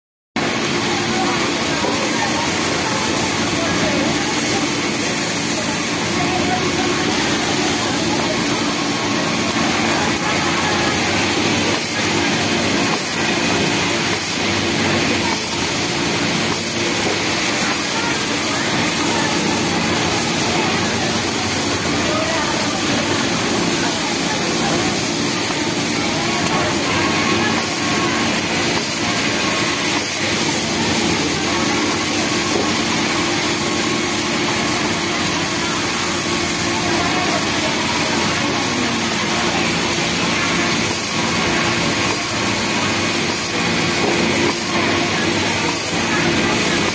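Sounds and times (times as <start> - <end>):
din of sewing machines: 0.4 - 46.9
industrial sewing machine running: 0.4 - 46.9.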